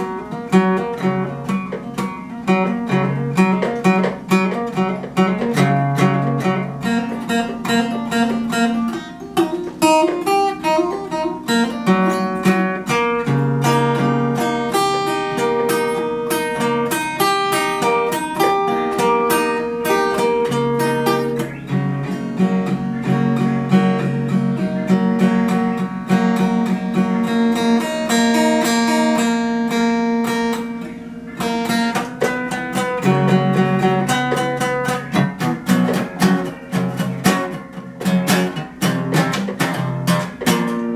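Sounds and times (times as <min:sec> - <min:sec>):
acoustic guitar instrumental: 0:00.0 - 0:40.9.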